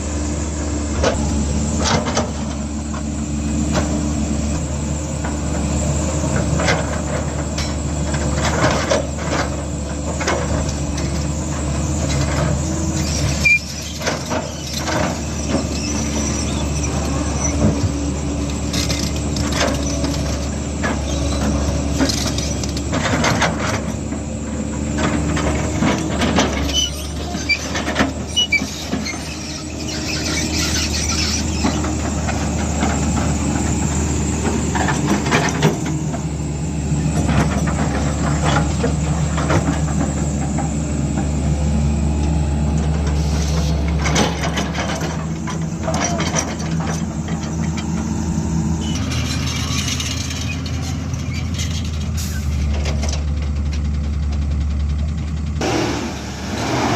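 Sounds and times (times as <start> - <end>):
diesel earthmoving machine running: 0.0 - 56.9.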